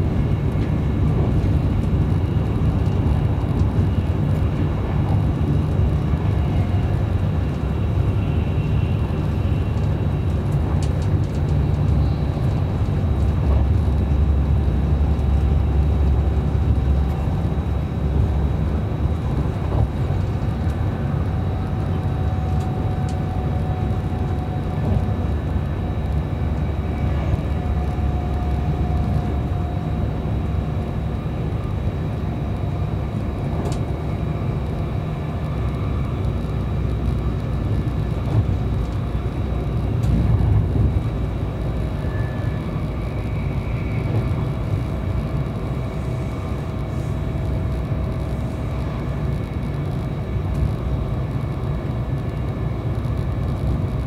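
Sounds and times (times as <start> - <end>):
faint whine: 0.0 - 54.0
train wheels rumbling on rail: 0.0 - 54.0.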